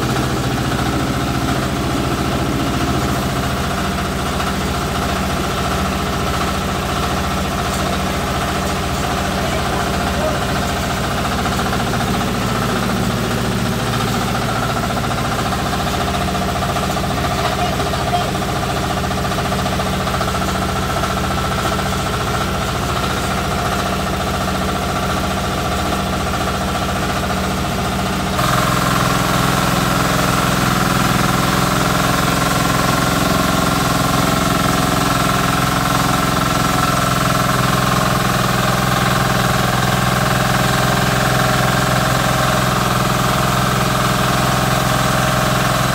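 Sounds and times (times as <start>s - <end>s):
rice milling machine: 0.0s - 45.9s
small engine running steadily: 0.0s - 45.9s.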